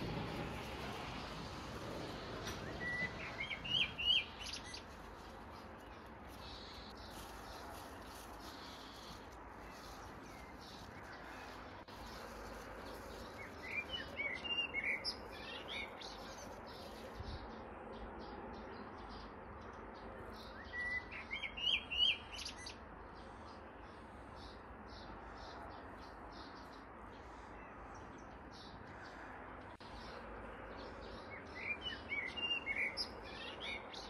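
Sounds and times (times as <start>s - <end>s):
outdoor background hiss: 0.0s - 34.0s
small birds chirping: 0.0s - 34.0s.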